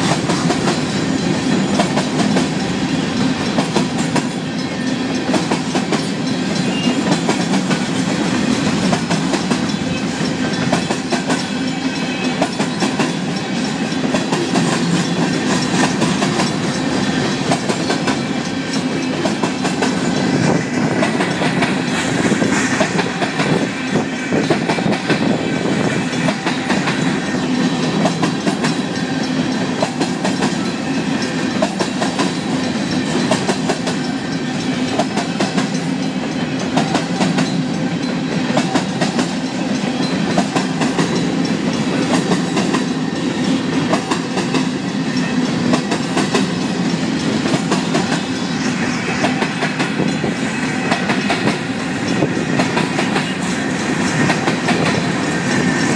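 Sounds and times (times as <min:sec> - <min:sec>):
train wheels rumbling on rails: 0:00.0 - 0:55.9
wheels clicking over rail joints: 0:00.0 - 0:55.9.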